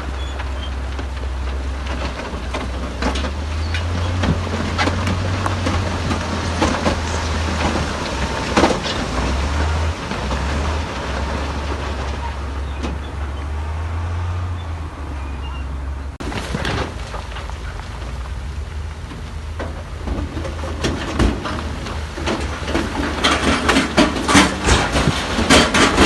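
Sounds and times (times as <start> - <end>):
knocks and clatter: 0.0 - 13.6, 16.1 - 26.0
diesel machinery engine drone: 0.0 - 26.0.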